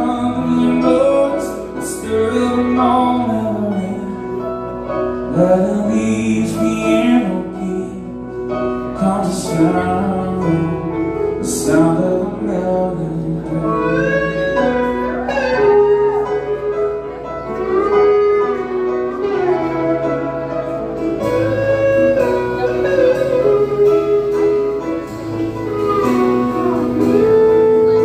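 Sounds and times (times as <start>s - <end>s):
country band playing: 0.0s - 28.0s
sliding lead guitar line: 0.0s - 28.0s.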